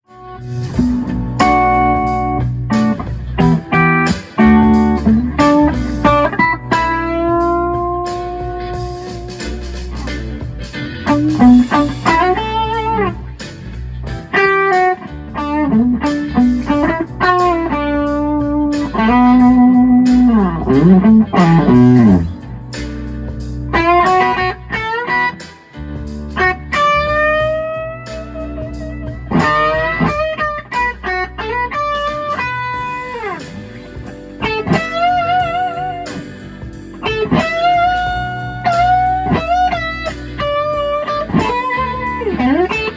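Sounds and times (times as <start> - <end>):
overdriven electric guitar blues lead: 0.1 - 42.9.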